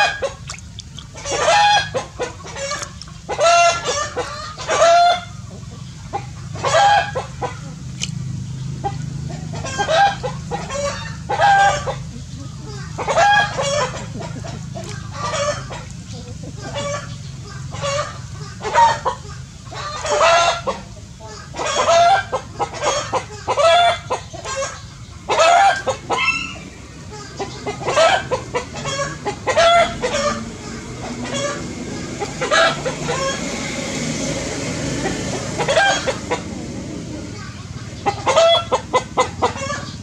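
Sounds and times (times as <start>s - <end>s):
animal clucking calls: 0.0s - 40.0s.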